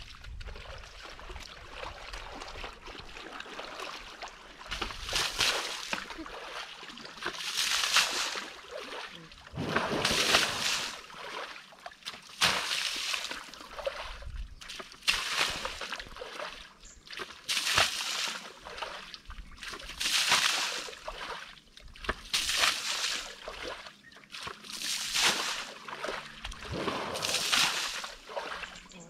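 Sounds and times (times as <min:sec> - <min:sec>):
water splashing in surges: 0:00.0 - 0:29.0.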